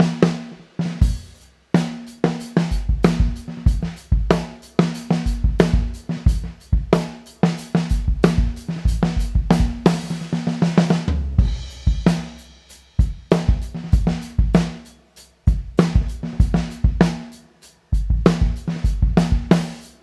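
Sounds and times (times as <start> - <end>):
drum kit groove: 0.0 - 20.0
snare drum: 0.0 - 20.0
bass drum: 1.0 - 14.8, 15.4 - 17.3, 17.9 - 20.0.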